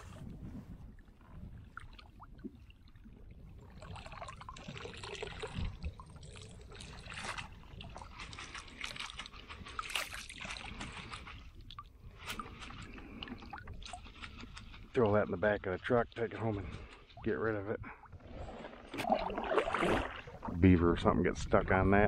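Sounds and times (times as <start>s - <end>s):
water dripping and splashing: 1.1s - 17.4s, 18.5s - 20.6s.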